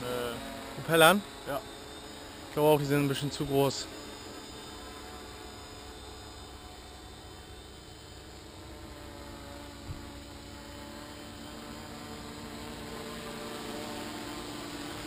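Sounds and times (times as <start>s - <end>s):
quadcopter buzzing hum: 0.0s - 15.0s.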